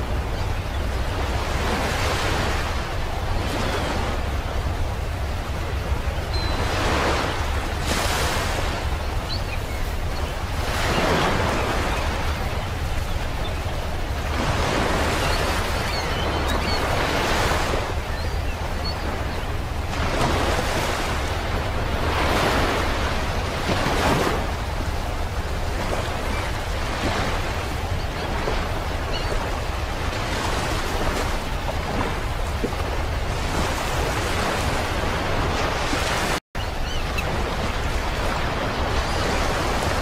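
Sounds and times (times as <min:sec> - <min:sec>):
waves breaking on a beach: 0:00.0 - 0:40.0.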